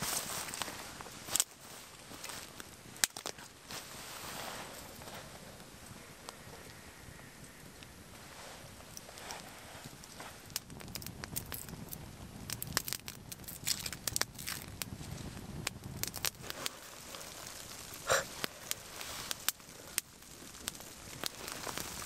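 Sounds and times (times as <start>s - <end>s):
sticks laid on fire: 0.0s - 6.4s, 7.8s - 22.0s
twig fire crackling: 0.0s - 22.0s.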